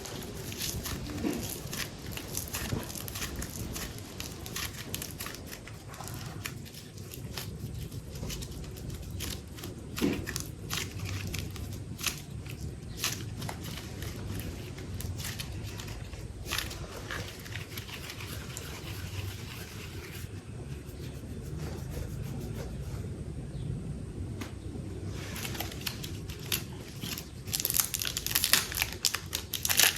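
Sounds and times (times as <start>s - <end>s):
plastic wrapping crinkling: 0.0s - 20.3s, 25.1s - 29.9s.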